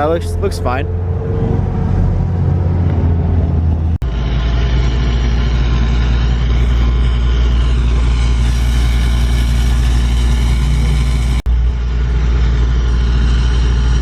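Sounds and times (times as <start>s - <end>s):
vehicle engine idling: 2.1s - 14.0s.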